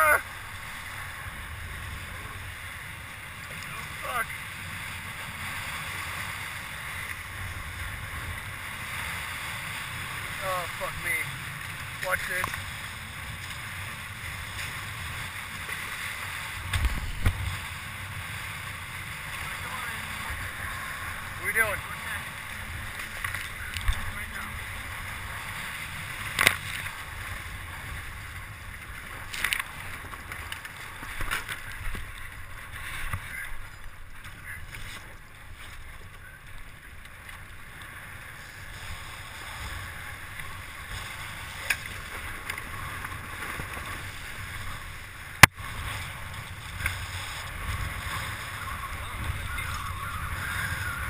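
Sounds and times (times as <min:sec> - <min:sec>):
water rushing along boat hulls: 0:00.0 - 0:51.0.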